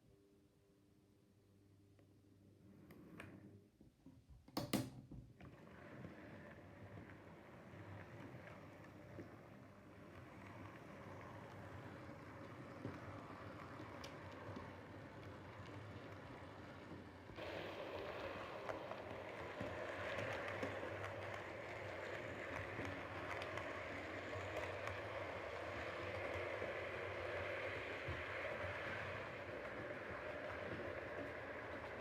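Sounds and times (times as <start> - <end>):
model train running on track: 5.8 - 32.0.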